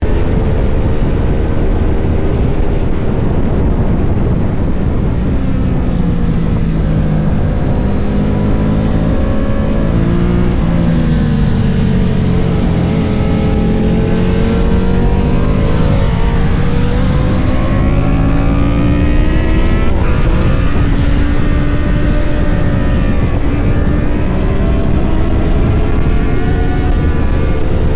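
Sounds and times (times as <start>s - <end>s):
motorcycle engines accelerating: 0.0s - 27.9s.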